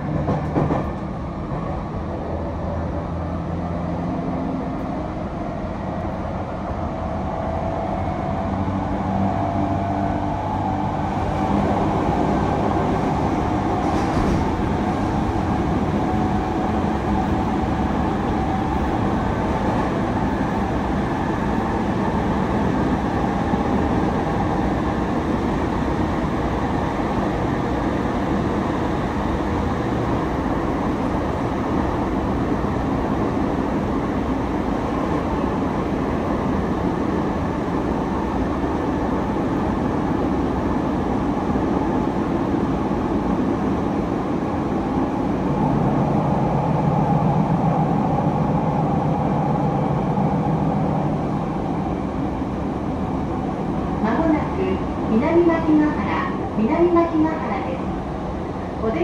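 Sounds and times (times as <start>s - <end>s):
train car rumbling on rails: 0.0s - 59.0s.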